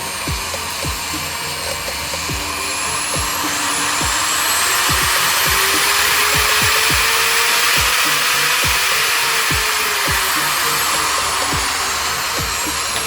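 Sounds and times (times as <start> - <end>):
electric drill whirring: 0.0 - 13.0.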